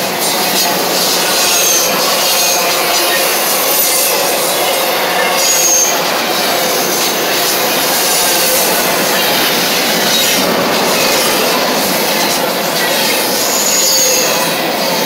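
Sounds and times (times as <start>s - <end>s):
train wheels on rails: 0.0s - 15.0s
short high wheel squeal: 0.1s - 10.4s, 11.0s - 15.0s.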